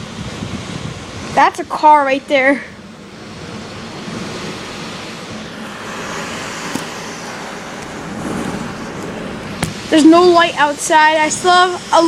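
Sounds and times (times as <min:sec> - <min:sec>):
hurricane wind and water rushing: 0:00.0 - 0:12.0.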